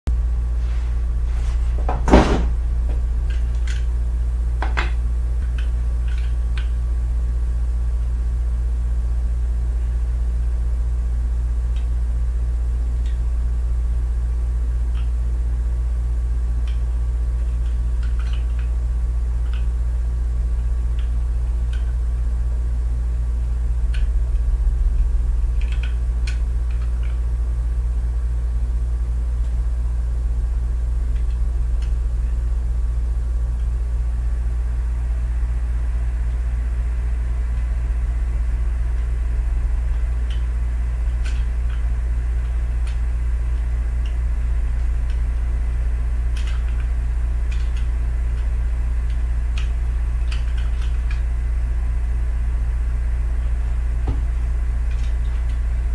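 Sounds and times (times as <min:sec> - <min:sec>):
steady low hum: 0:00.1 - 0:55.9.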